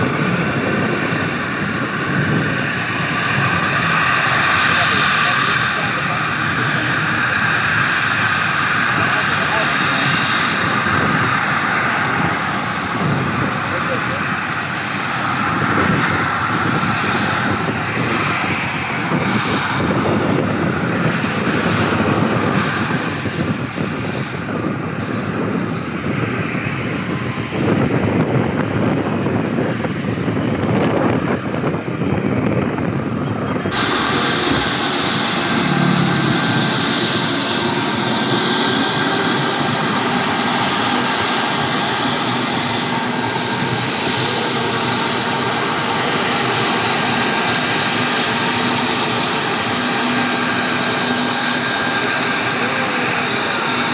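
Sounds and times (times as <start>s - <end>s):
airliner engines running: 0.0s - 53.9s.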